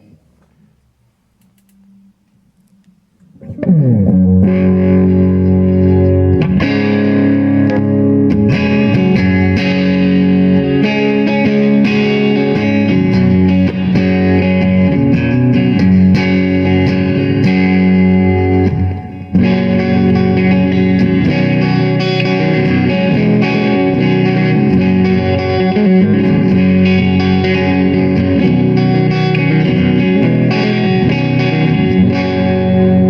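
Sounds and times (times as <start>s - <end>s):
overdriven electric guitar: 1.6s - 33.0s.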